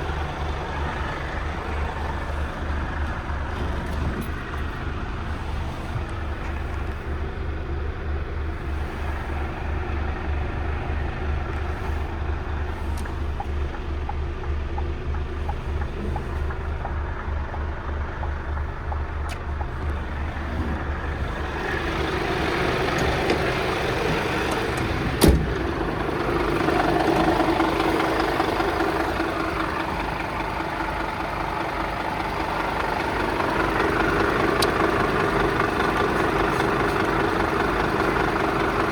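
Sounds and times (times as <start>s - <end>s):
broad mechanical noise: 0.0s - 38.9s
diesel truck engine idling: 0.0s - 38.9s.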